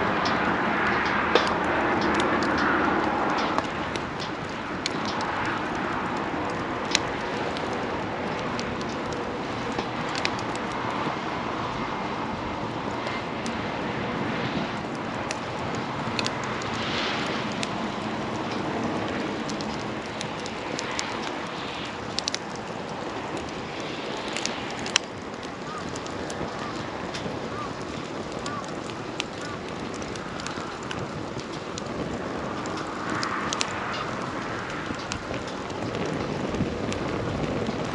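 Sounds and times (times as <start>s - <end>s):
campfire crackles and pops: 0.0s - 37.9s
steady rushing noise: 0.0s - 37.9s.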